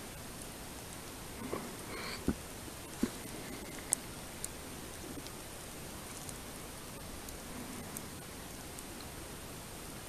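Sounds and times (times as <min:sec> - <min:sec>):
rain hissing: 0:00.0 - 0:10.0.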